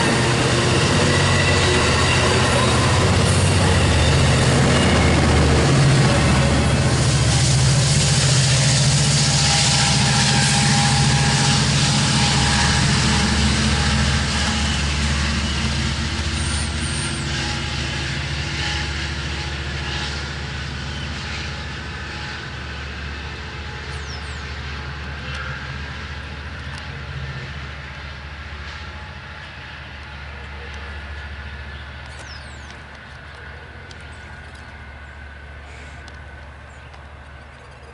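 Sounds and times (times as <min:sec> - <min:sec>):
diesel locomotive engine hum: 0:00.0 - 0:37.9
train wheel and rail noise: 0:00.0 - 0:37.9.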